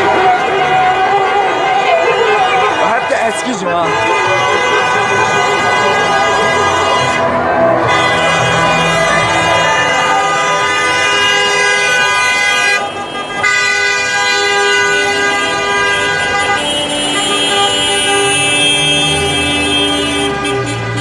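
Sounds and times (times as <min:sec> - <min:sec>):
car horns honking: 0:00.0 - 0:21.0.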